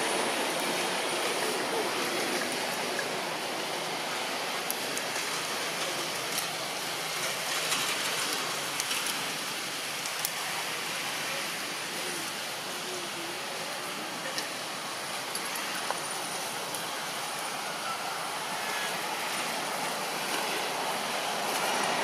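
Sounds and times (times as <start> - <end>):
rushing noise among trees: 0.0 - 22.0.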